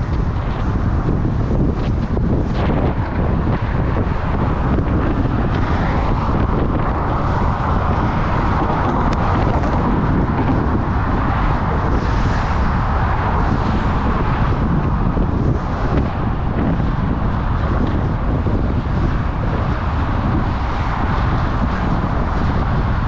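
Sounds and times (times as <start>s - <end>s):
passing road traffic: 0.0s - 23.0s
wind buffeting microphone: 0.0s - 23.0s.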